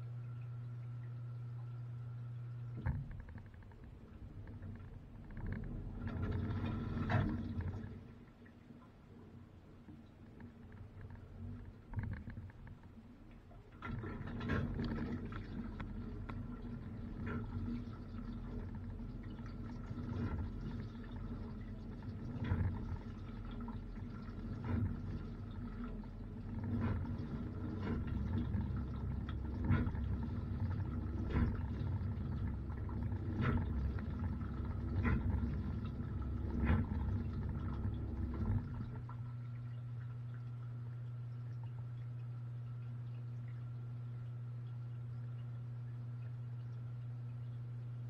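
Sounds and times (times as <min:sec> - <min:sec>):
dishwasher pump hum: 0:00.0 - 0:48.0.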